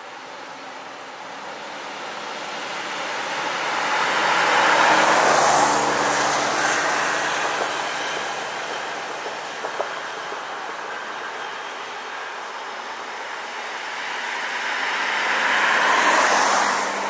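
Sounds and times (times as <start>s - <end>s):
car passing on paved road: 0.0s - 17.0s.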